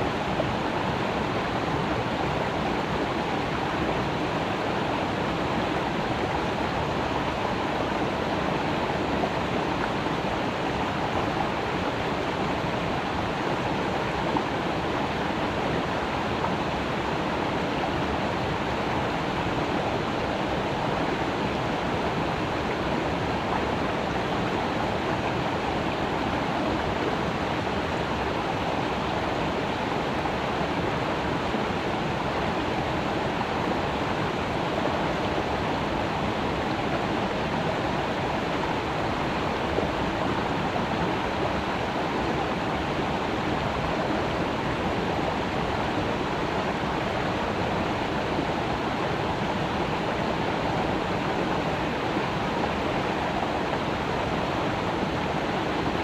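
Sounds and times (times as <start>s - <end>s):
creek flowing over rocks: 0.0s - 56.0s.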